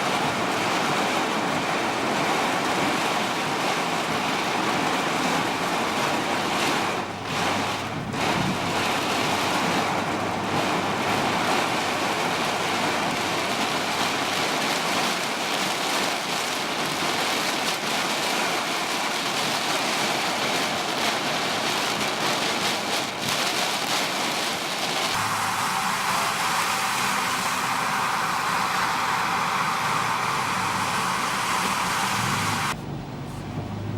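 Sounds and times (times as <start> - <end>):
heavy rain pouring: 0.0 - 32.8.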